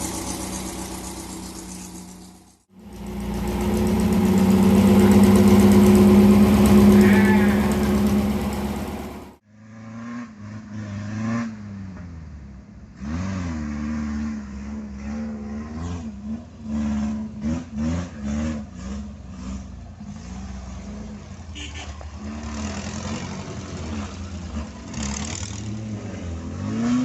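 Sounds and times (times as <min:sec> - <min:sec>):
buggy engine revving: 0:00.0 - 0:27.0.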